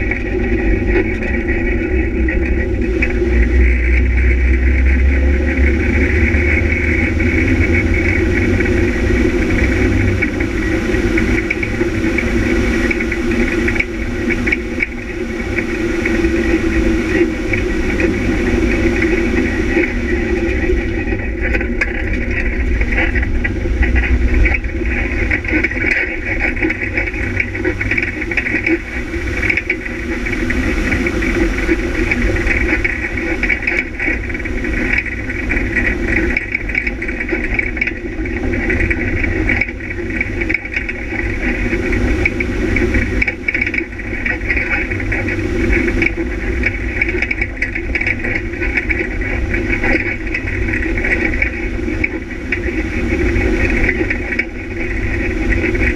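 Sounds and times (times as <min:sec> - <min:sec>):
low rumble from rough track: 0:00.0 - 0:55.9
vehicle engine running: 0:00.0 - 0:55.9.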